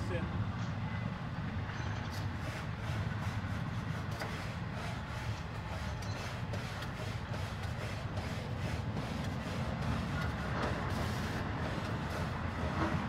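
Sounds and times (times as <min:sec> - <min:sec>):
train rumbling past: 0:00.0 - 0:13.0
scrubbing a grill grate: 0:02.4 - 0:13.0.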